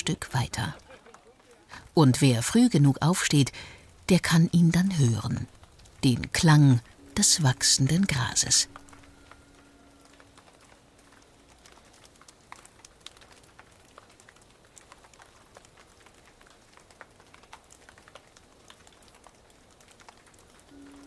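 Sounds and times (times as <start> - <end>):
faint irregular clicks and crackles: 0.0 - 21.0
soft hiss: 0.0 - 21.0.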